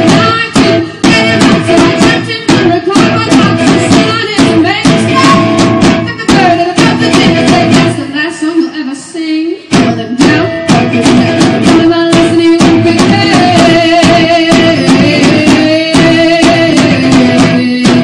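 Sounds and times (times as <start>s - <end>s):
steady drum beat: 0.0s - 8.1s, 9.7s - 18.0s.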